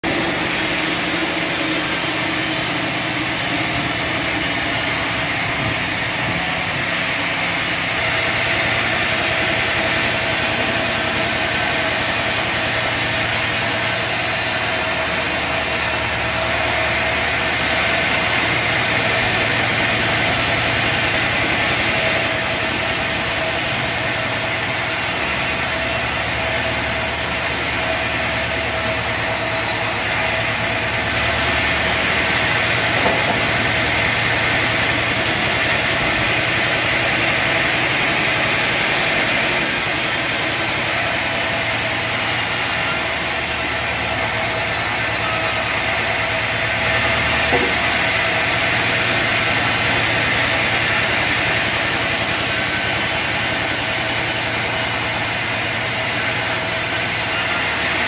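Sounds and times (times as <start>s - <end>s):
bandsaw running: 0.0s - 58.0s.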